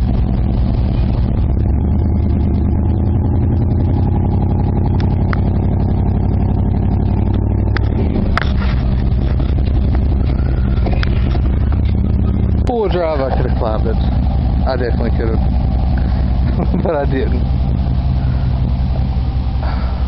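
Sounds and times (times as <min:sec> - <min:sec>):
truck engine under load: 0:00.0 - 0:20.0.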